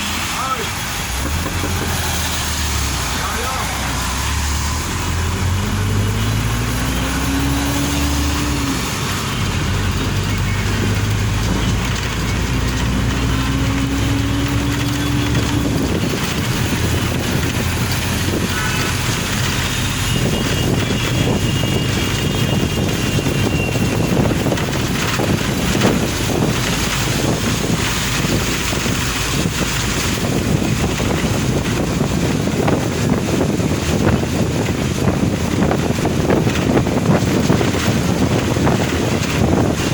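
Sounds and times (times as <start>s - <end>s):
car engine accelerating: 0.0s - 39.9s
car road noise in rain: 0.0s - 39.9s
wind and rain on microphone: 0.0s - 39.9s.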